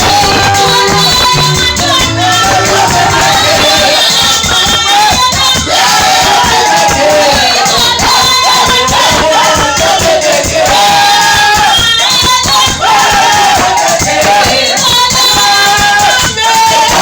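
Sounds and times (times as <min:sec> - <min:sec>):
fast percussion with shakers: 0:00.0 - 0:17.0
voices singing: 0:00.0 - 0:17.0.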